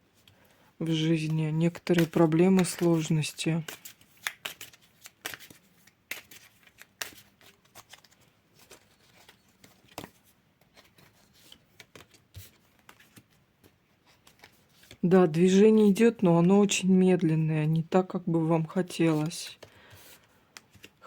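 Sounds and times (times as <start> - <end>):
cards being shuffled: 0.2 - 17.3, 18.6 - 21.0
cards clicking and rustling: 0.2 - 17.3, 19.1 - 21.0.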